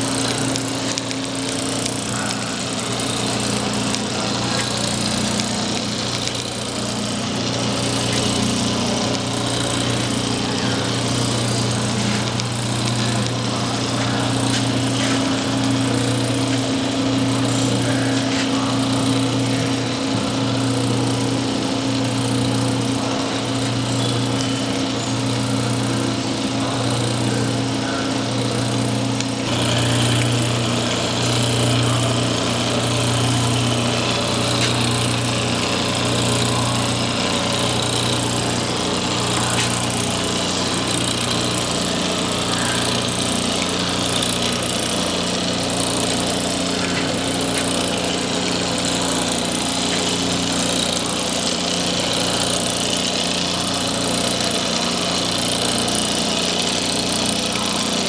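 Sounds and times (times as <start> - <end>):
low pulsing drone: 0.0 - 57.9
machinery humming: 0.0 - 58.0.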